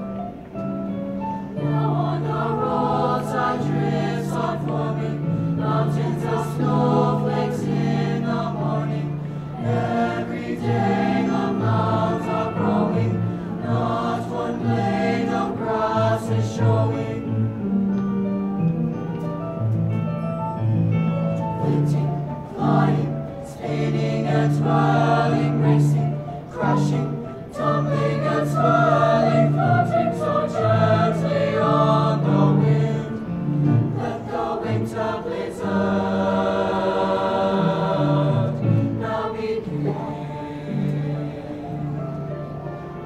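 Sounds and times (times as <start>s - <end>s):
youth choir singing: 1.6s - 17.5s, 21.6s - 42.2s.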